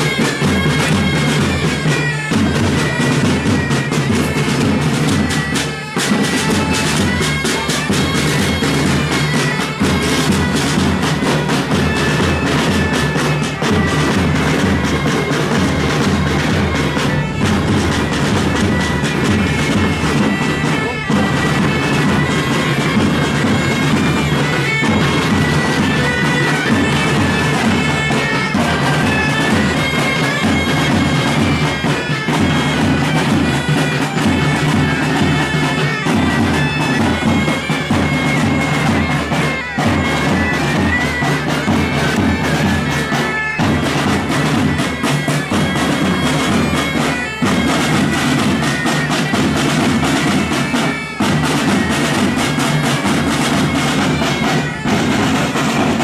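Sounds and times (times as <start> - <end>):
bagpipe band playing: 0.0 - 56.0.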